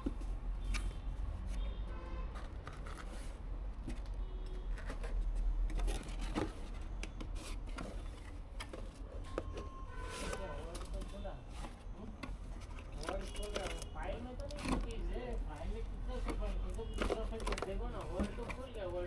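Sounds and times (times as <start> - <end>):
objects clicking and rustling: 2.4 - 15.1, 16.1 - 18.8.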